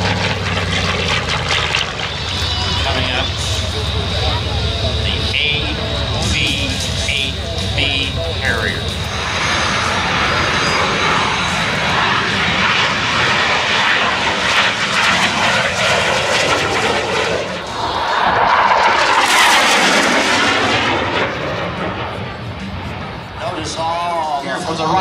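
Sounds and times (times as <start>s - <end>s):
fighter jet roar: 0.0s - 25.0s.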